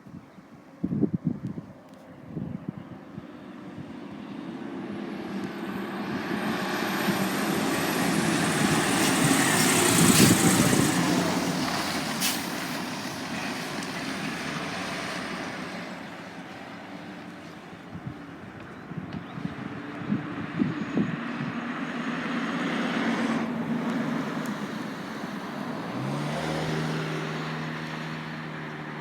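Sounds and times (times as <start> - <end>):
fire engine driving past: 2.9 - 29.0.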